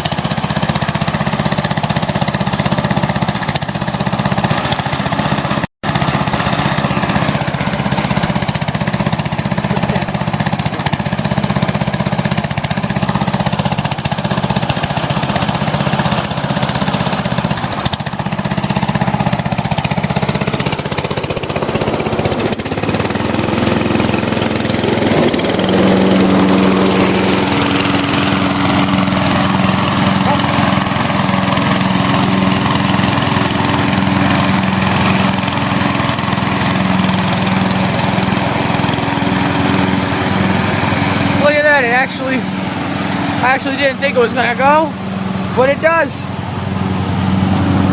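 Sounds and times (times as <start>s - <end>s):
lawn mower engine running: 0.0s - 47.9s.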